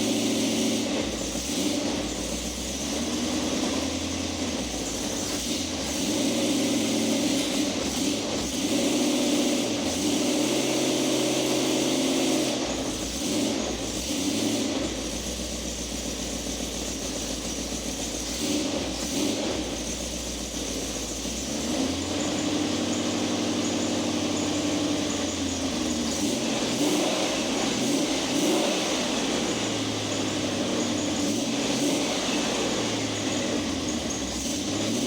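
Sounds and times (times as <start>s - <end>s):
car engine revving through exhaust: 0.0s - 35.0s.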